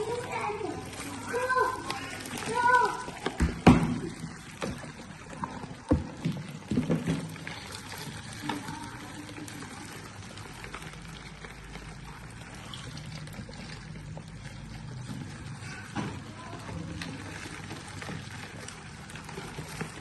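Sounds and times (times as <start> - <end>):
water trickling and pouring: 0.0 - 20.0.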